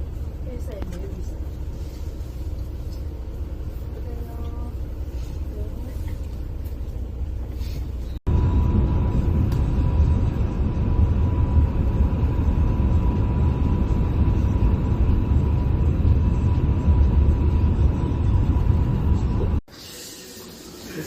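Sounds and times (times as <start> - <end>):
faint steady whine: 0.0 - 19.6
vehicle rumbling on road: 0.0 - 19.6.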